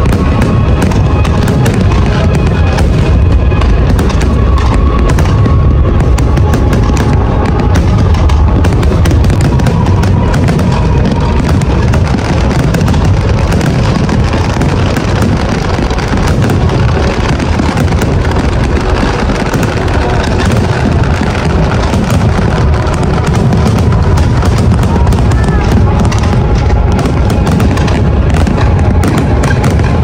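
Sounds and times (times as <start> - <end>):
crowd voices: 0.0 - 30.0
fireworks bangs and crackles: 0.0 - 30.0
music: 0.0 - 30.0.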